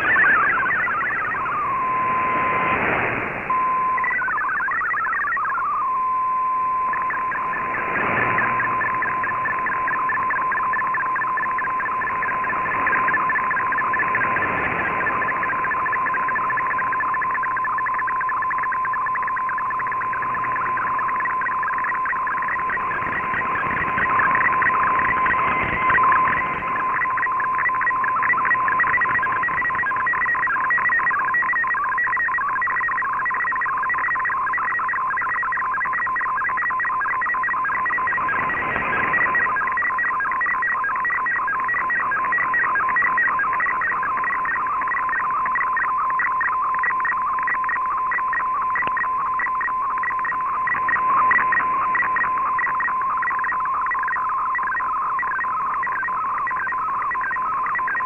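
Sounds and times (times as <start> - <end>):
radio hiss: 0.0 - 5.9, 6.8 - 57.9
steady tone: 0.0 - 58.0
warbling digital data tones: 0.0 - 58.0.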